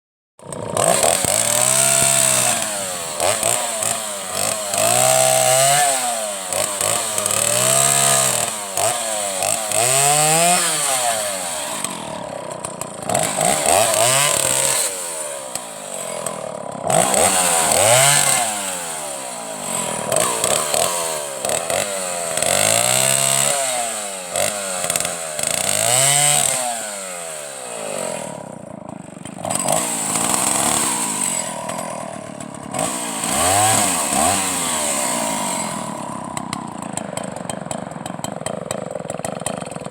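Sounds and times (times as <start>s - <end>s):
chainsaw engine revving: 0.4s - 39.9s.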